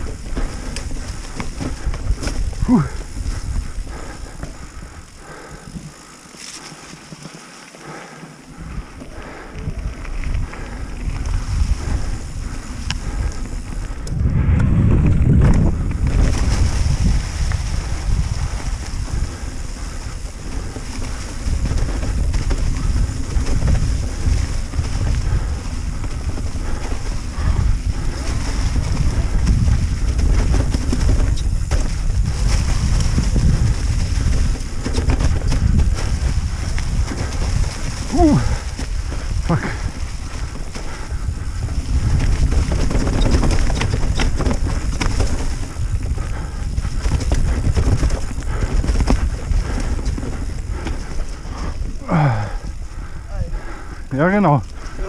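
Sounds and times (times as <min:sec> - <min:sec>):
tyres rumbling on rough ground: 0:00.0 - 0:55.0
wind buffeting microphone: 0:00.0 - 0:55.0.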